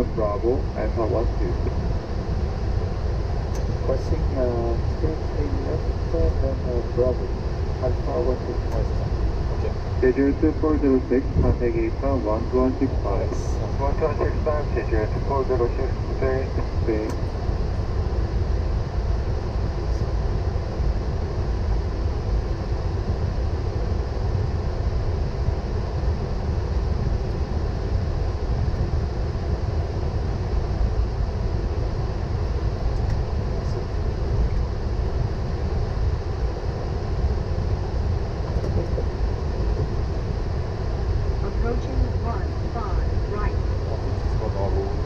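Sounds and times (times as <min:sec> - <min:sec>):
low rumble: 0:00.0 - 0:45.0.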